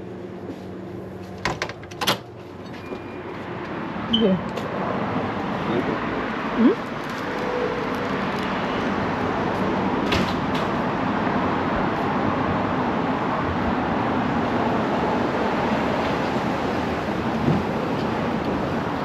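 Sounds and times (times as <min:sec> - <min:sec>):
road vehicles rumbling: 0:00.0 - 0:19.0.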